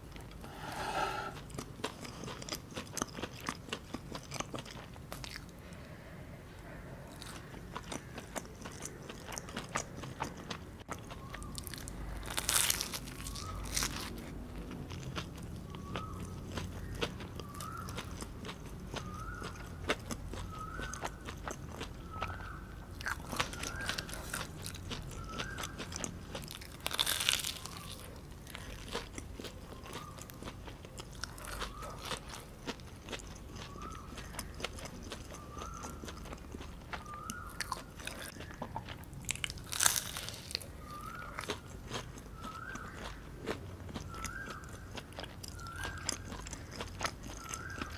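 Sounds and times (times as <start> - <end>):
crunchy chewing: 0.0 - 47.9.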